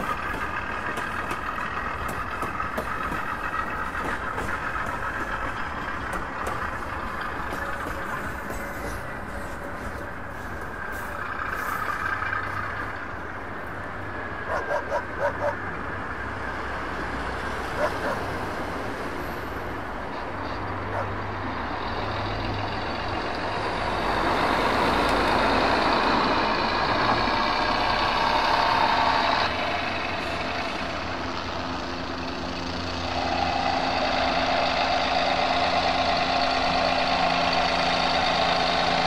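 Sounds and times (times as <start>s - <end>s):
diesel railcar engine running: 0.0s - 39.0s.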